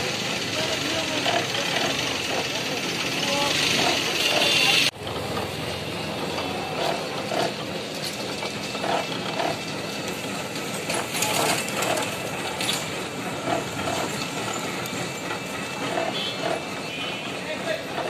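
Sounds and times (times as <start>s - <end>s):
juice press motor hum: 0.0s - 18.0s
mechanical clatter: 0.0s - 18.0s.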